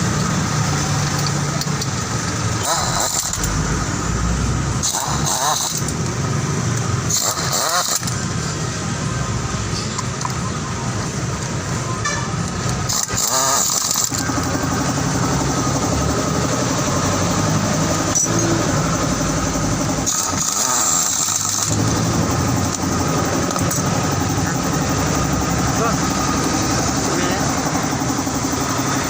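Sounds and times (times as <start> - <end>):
scooter engine running: 0.0 - 29.0.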